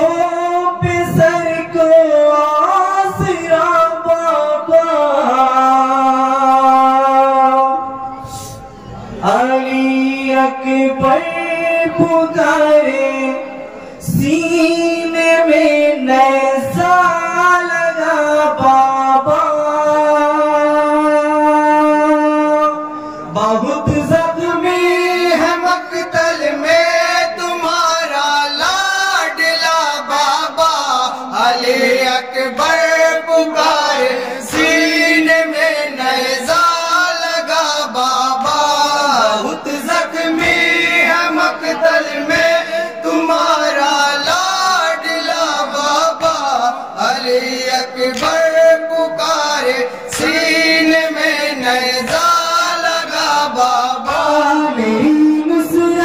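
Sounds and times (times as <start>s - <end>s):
men chanting into a microphone: 0.0s - 56.0s.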